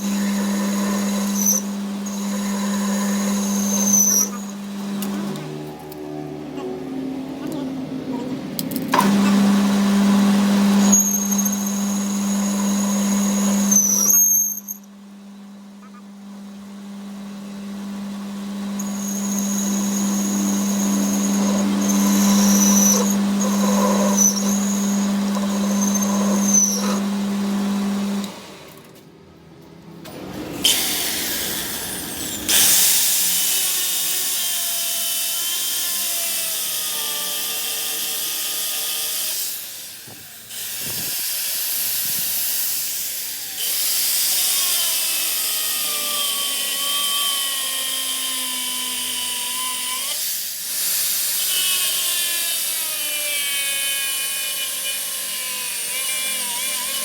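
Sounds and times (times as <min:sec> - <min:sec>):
harsh power tool noise: 0:00.0 - 0:07.7, 0:08.5 - 0:14.9, 0:15.6 - 0:29.0, 0:30.0 - 0:57.0
power tool motor whining: 0:00.0 - 0:07.7, 0:08.6 - 0:14.9, 0:16.8 - 0:29.0, 0:30.1 - 0:57.0.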